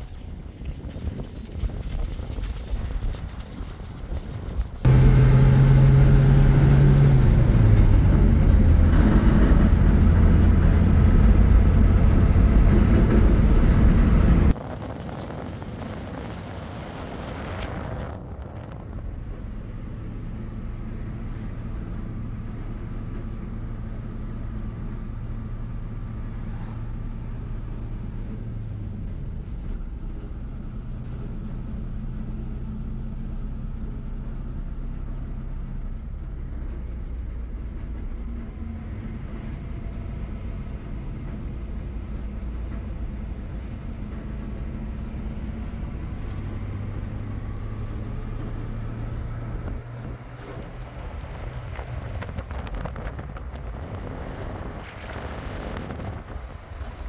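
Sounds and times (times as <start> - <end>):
road noise: 0.0 - 57.0
car engine drone: 4.0 - 57.0.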